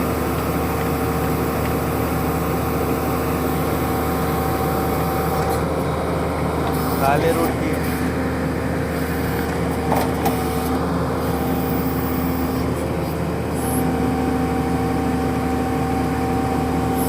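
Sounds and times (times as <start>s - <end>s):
drilling rig engine drone: 0.0s - 17.0s
hydraulic whine: 0.0s - 17.0s.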